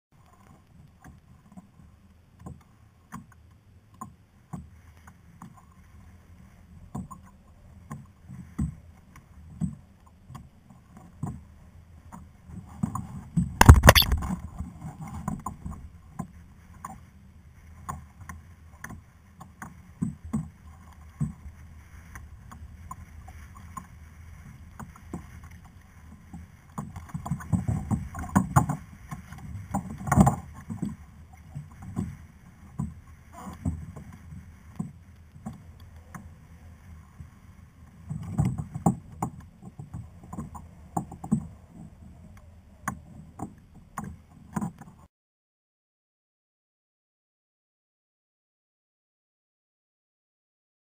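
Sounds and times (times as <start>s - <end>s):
water lapping against hull: 0.2s - 45.1s.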